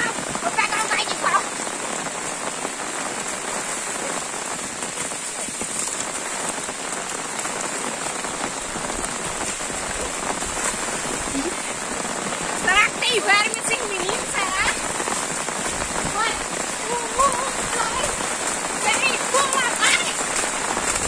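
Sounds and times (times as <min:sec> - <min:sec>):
rain falling on road and foliage: 0:00.0 - 0:21.0.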